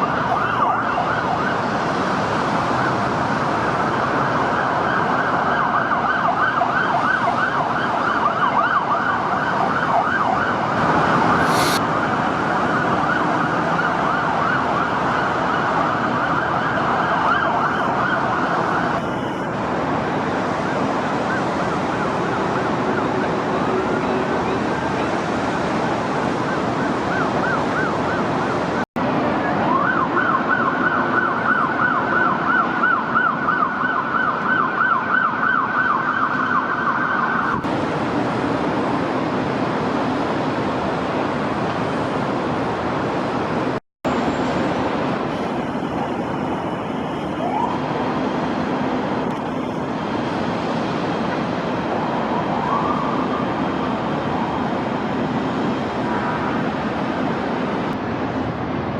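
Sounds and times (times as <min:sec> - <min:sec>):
police siren yelping: 0:00.0 - 0:01.8, 0:03.6 - 0:28.8, 0:29.4 - 0:37.7, 0:44.2 - 0:50.8, 0:51.4 - 0:56.8
distant city traffic: 0:00.0 - 0:58.9.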